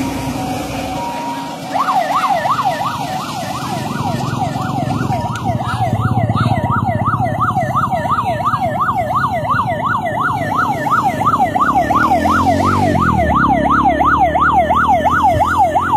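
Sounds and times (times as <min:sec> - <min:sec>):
ambulance siren yelp: 0:00.0 - 0:15.9
steady siren tone: 0:00.0 - 0:15.9
vehicle engines running: 0:00.0 - 0:15.9.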